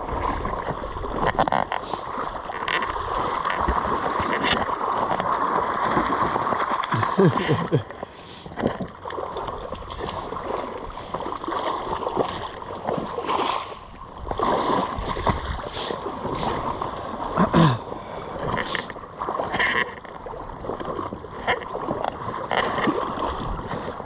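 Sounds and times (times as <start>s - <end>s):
floodwater splashing and sloshing: 0.0s - 24.0s.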